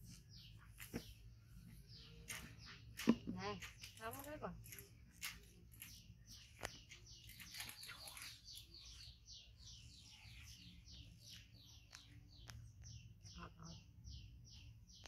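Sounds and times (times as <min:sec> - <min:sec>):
small bird chirping faintly: 0:00.0 - 0:15.0.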